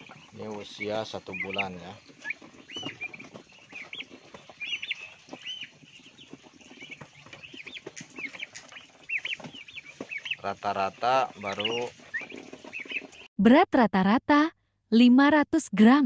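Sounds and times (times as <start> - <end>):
turkey poults peeping: 0.0 - 13.3.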